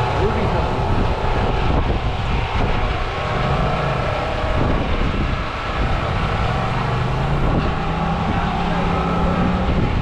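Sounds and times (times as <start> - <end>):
low motor hum: 0.0 - 10.0
wind buffeting microphone: 0.0 - 10.0.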